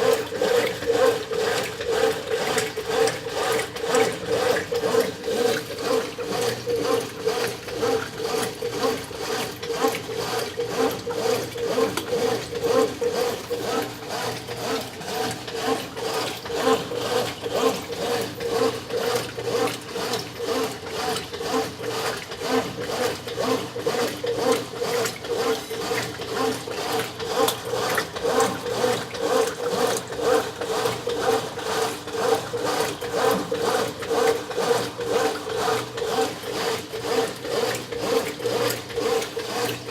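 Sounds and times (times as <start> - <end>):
washing machine churning: 0.0 - 39.9.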